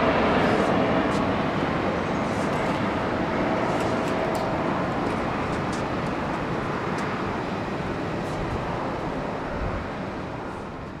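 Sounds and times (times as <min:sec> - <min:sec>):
jet airliner climbing rumble: 0:00.0 - 0:11.0.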